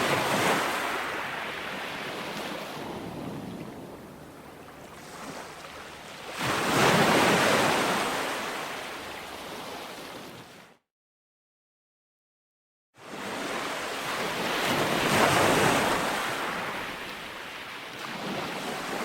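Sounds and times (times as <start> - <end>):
ocean waves breaking on beach: 0.0 - 10.8, 13.0 - 19.0.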